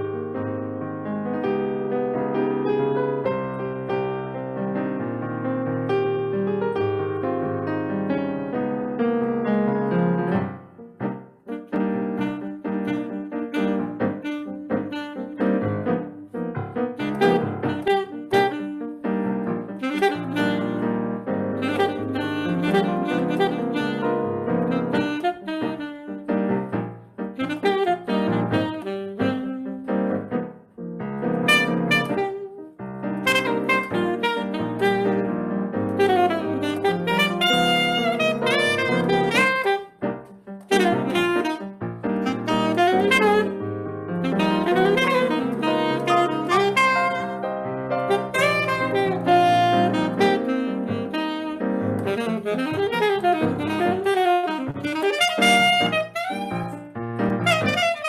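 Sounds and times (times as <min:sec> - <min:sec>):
piano accompaniment: 0:00.0 - 0:58.0
saxophone playing fast melody: 0:09.8 - 0:30.5, 0:31.4 - 0:58.0.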